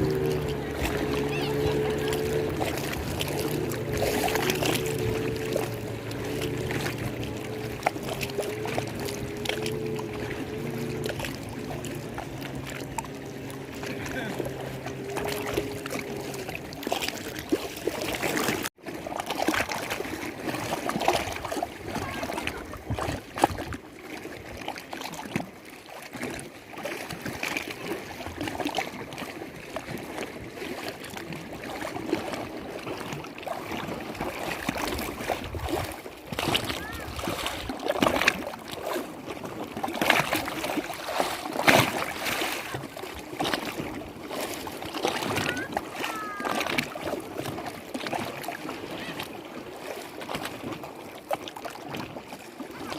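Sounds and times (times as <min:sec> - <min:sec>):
lake water lapping and splashing: 0:00.0 - 0:52.9.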